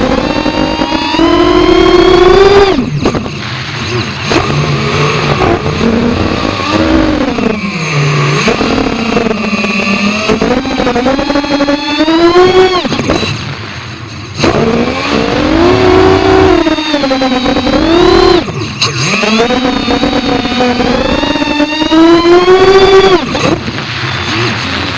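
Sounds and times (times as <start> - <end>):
quadcopter motors whining: 0.0 - 13.5, 14.1 - 24.9.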